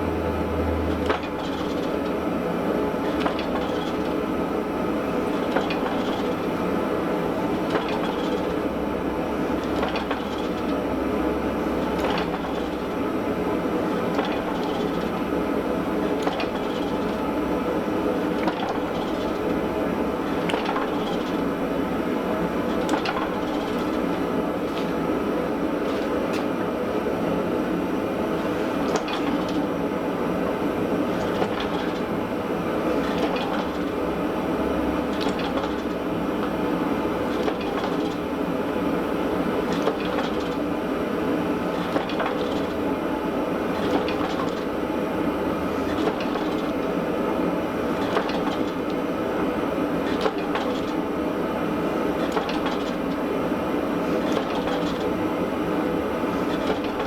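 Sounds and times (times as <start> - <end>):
steady mechanical running noise: 0.0 - 57.0.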